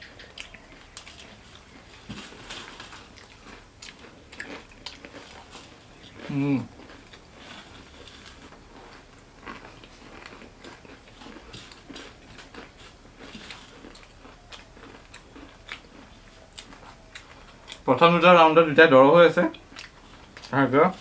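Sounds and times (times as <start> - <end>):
chewing and crunching snacks: 0.0 - 21.0.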